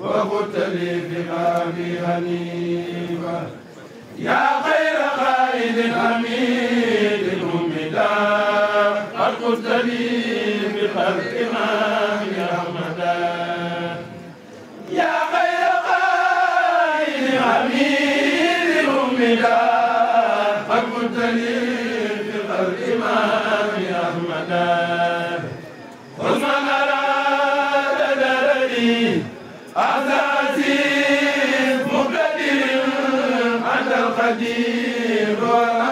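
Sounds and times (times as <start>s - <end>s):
men chanting together: 0.0s - 3.6s, 4.2s - 14.2s, 14.9s - 25.6s, 26.2s - 35.9s.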